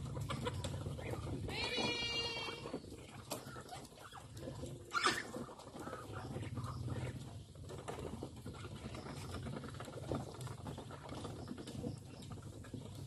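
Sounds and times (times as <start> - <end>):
birds pecking grain in a trough: 0.0 - 13.0.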